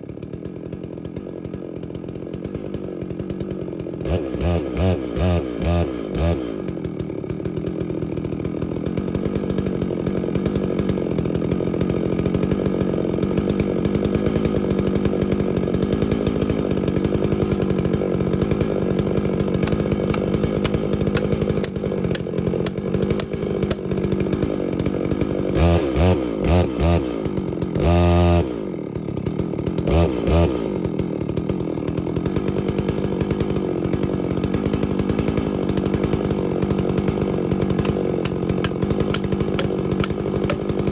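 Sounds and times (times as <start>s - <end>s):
chainsaw cutting into tree: 0.0s - 40.9s.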